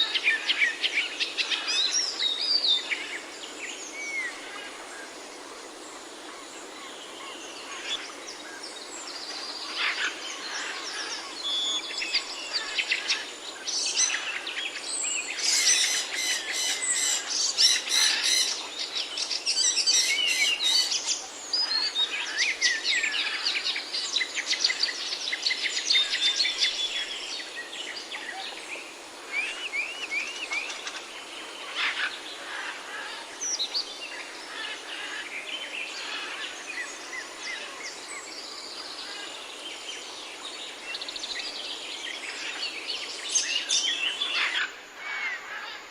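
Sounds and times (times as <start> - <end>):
steady hiss: 0.0 - 45.9.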